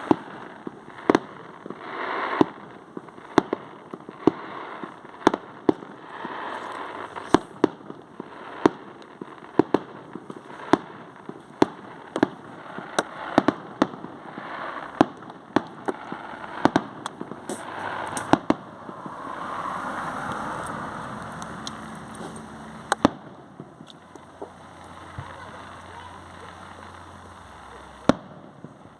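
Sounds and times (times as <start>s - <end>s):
fireworks bangs: 0.0s - 28.9s
fireworks crackle: 0.0s - 28.9s.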